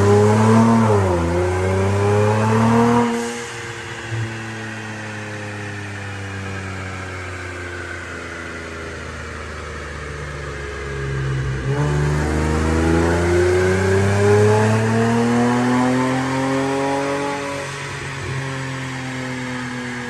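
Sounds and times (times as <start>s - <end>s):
car engine revving on a dyno: 0.0s - 20.0s.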